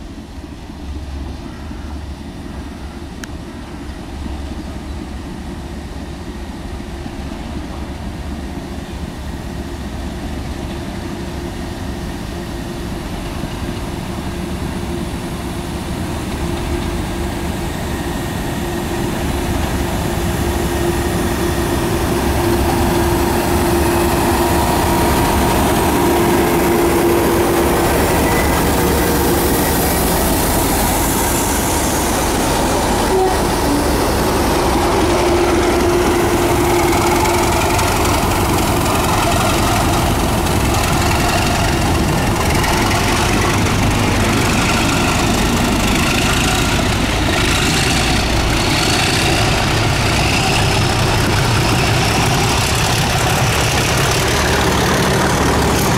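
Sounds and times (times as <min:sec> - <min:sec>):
diesel locomotive engine: 0:00.0 - 0:55.9.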